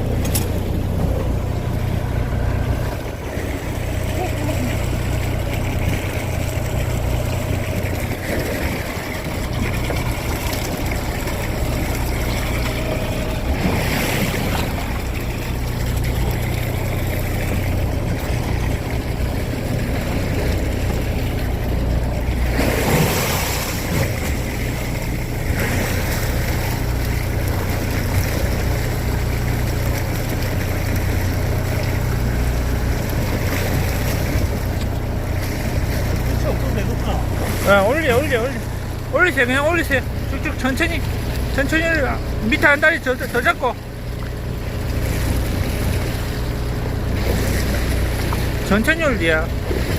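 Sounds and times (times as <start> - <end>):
boat engine running: 0.0 - 49.9
sea and wind noise: 0.0 - 49.9.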